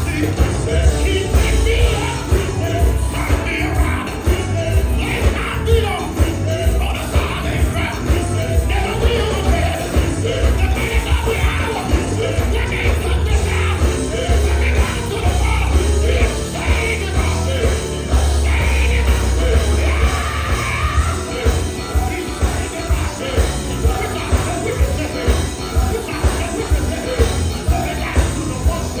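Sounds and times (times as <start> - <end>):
gospel band playing: 0.0 - 29.0
singer shouting and singing: 0.0 - 29.0.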